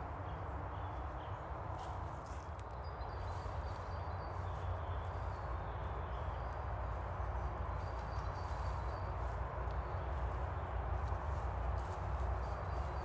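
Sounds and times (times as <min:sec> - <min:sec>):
footsteps through undergrowth: 0:00.9 - 0:13.0.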